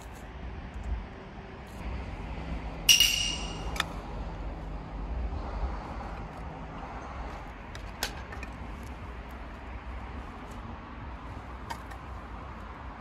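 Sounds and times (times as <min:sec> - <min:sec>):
steady low rumble: 0:00.2 - 0:13.0.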